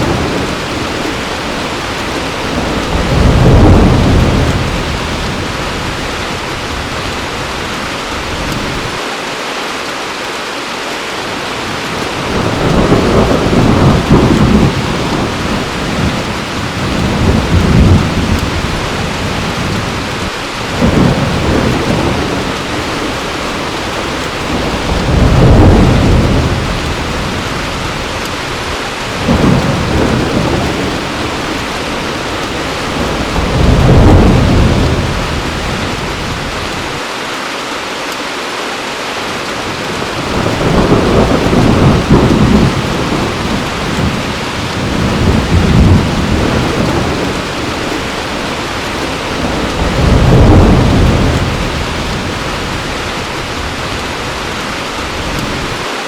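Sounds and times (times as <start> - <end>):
thunder rumbling: 0.0 - 9.0, 11.6 - 37.0, 39.6 - 55.9
heavy rain: 0.0 - 56.0.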